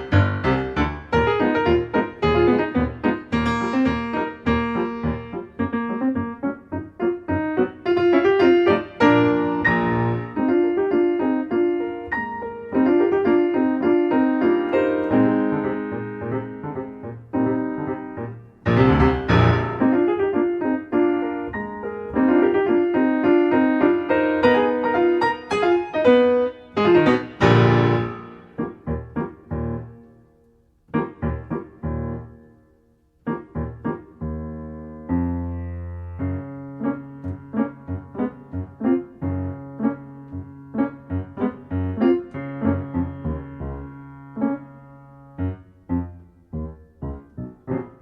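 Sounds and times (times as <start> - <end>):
solo piano music: 0.0 - 48.0.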